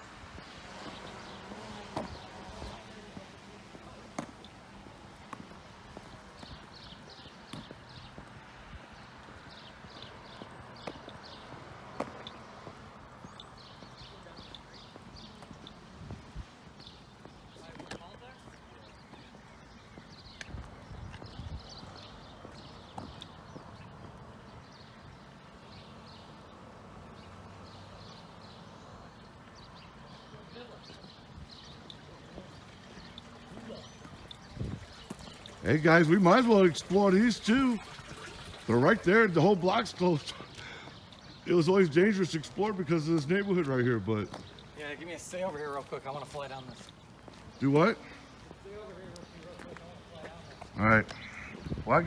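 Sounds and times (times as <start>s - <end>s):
bird chirping: 0.0s - 26.4s, 27.2s - 52.0s
footsteps on pavement: 0.0s - 52.0s.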